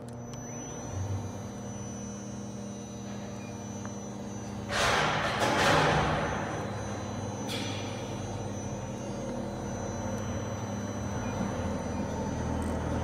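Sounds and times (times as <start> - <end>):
machine hum: 0.0 - 13.0
faint rising whine: 0.1 - 13.0.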